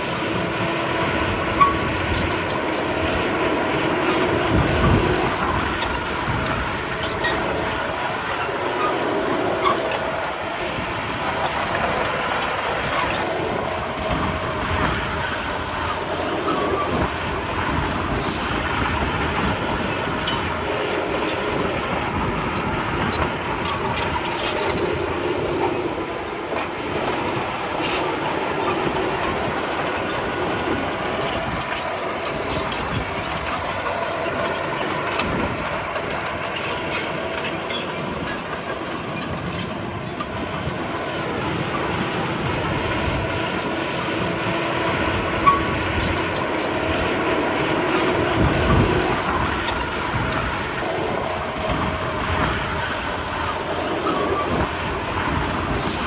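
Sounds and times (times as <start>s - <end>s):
bulldozer diesel engine running: 0.0s - 56.0s
steel tracks clanking: 0.0s - 56.0s.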